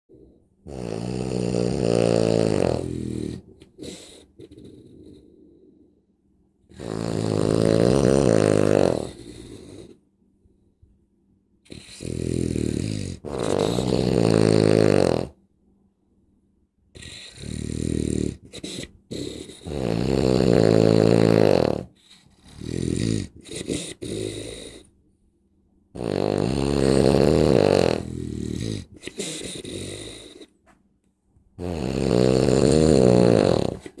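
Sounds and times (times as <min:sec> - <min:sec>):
very loud snoring: 0:00.1 - 0:05.7, 0:06.7 - 0:10.0, 0:11.7 - 0:15.4, 0:17.0 - 0:24.9, 0:26.0 - 0:30.5, 0:31.6 - 0:34.0.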